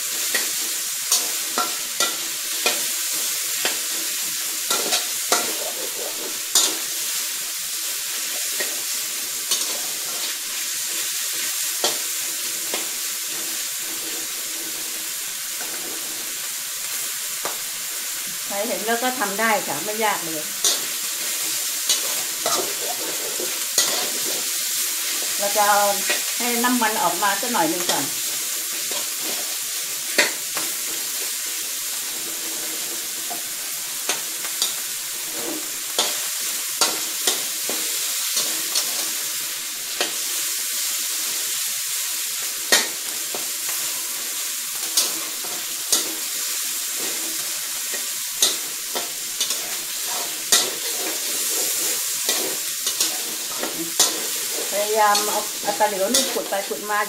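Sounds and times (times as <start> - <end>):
meat sizzling in hot oil: 0.0 - 57.0
metal spatula scraping a wok: 0.1 - 7.4, 8.0 - 16.3, 19.0 - 41.6, 42.4 - 57.0.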